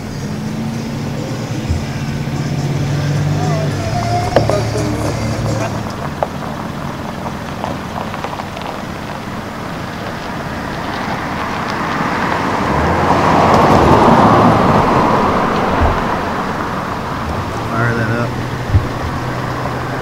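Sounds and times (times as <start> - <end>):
car driving past: 0.0 - 20.0.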